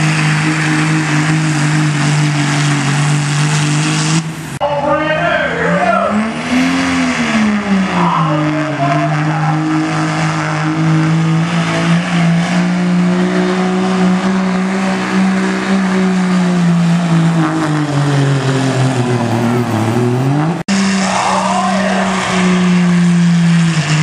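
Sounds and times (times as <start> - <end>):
diesel truck engine at high revs: 0.0 - 24.0.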